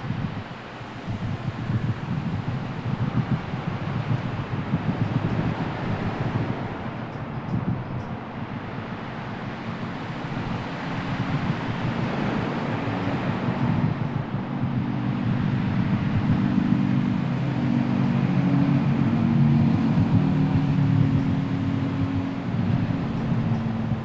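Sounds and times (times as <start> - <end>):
low droning hum: 0.0 - 24.0
sea noise: 0.0 - 24.0
strong wind: 0.0 - 24.0.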